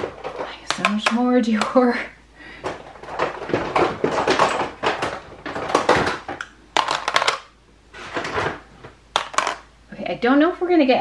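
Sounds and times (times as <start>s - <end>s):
plastic makeup cases clacking: 0.0s - 2.0s, 2.6s - 9.7s.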